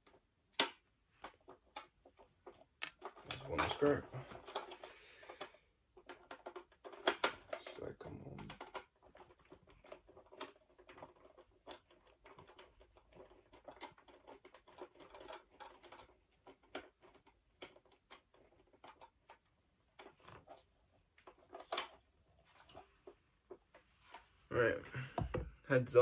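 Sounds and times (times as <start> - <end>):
plastic parts clicking and scraping: 0.0 - 24.4.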